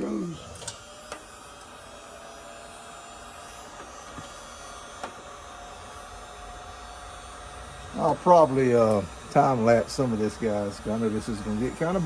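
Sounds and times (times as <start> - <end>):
heat gun blowing hiss: 0.0 - 12.0.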